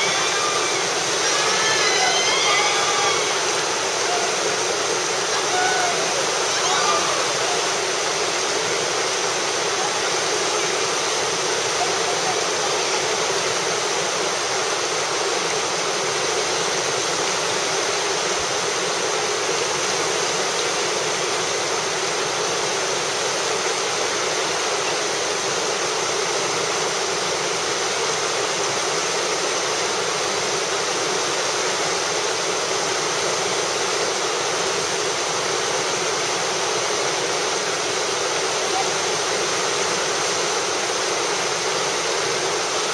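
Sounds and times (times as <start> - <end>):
whitewater rushing: 0.0 - 42.9.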